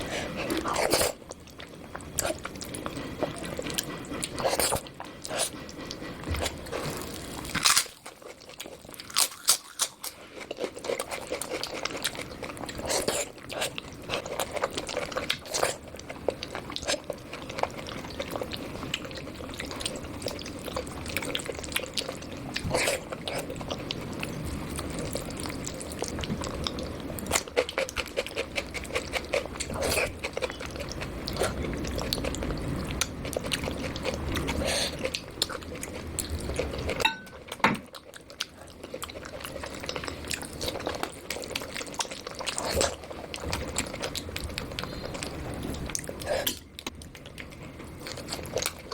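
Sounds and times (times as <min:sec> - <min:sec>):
person chewing wet food: 0:00.0 - 0:48.9.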